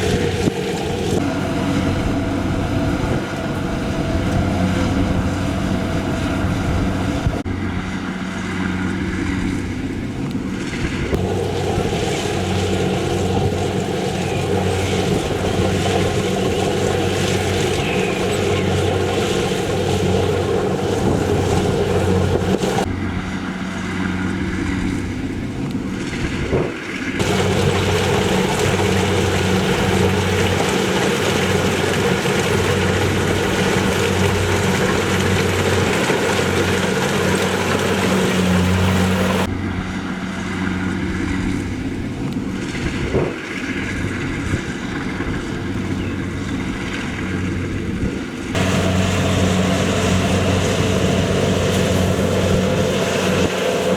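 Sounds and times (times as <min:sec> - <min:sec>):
combine harvester machinery running: 0:00.0 - 0:53.9.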